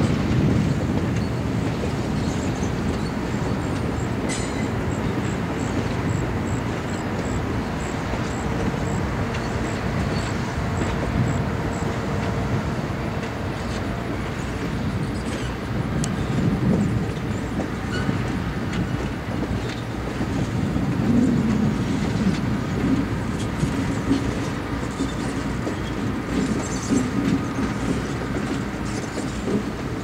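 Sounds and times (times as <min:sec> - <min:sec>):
train cars rumbling past: 0:00.0 - 0:30.0
wheels clicking over rail joints: 0:00.1 - 0:30.0.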